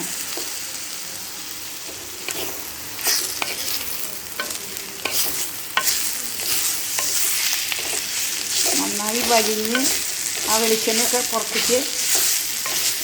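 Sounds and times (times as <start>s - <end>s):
food sizzling in oil: 0.0s - 13.0s
spoon scraping a pan: 1.9s - 13.0s.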